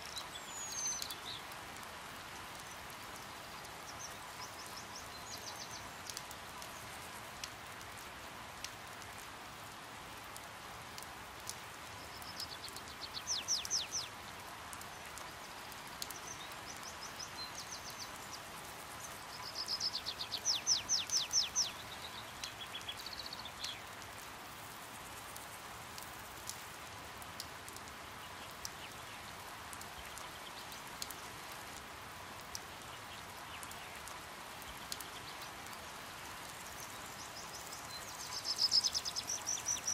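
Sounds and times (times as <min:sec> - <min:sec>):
steady rain: 0:00.0 - 0:39.9
water drips: 0:00.0 - 0:39.9.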